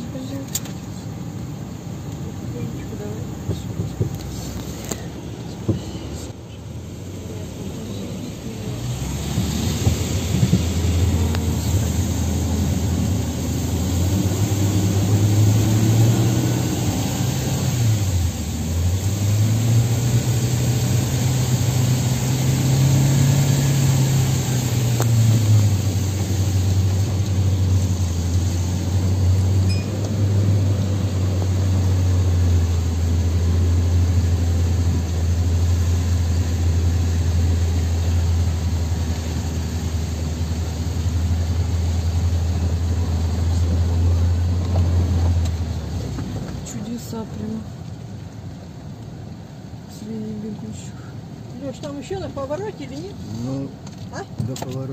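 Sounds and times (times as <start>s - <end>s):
car engine from inside cabin: 0.0s - 54.9s.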